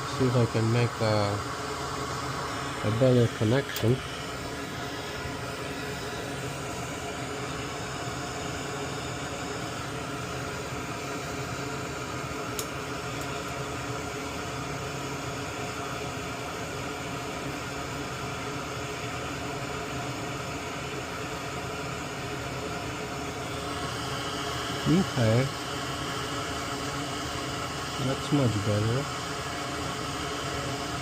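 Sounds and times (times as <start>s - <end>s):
small electric fan whirring: 0.0s - 31.0s.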